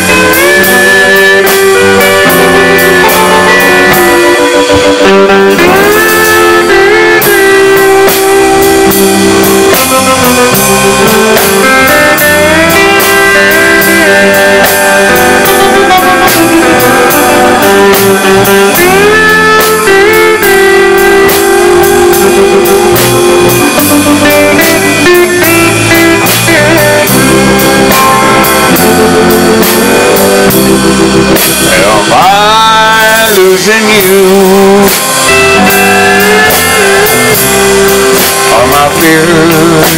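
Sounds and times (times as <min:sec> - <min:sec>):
country band playing: 0:00.0 - 0:39.9
steel guitar sliding: 0:00.0 - 0:39.9.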